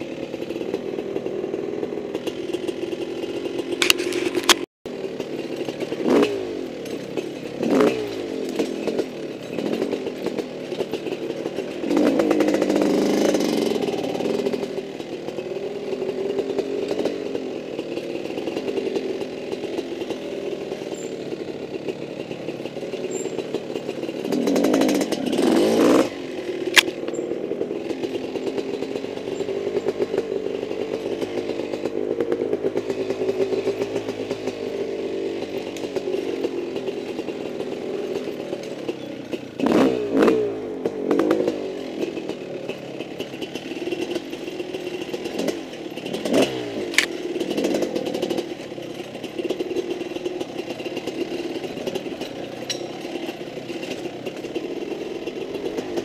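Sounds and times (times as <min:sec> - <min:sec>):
mountain bike rattling: 0:00.0 - 0:56.0.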